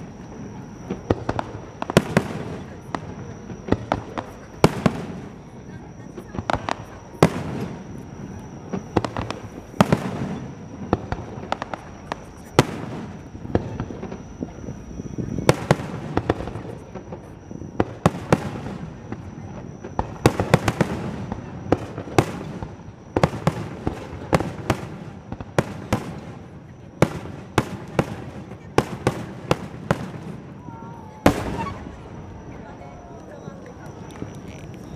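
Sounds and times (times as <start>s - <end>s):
fireworks booming and cracking: 0.0s - 34.9s.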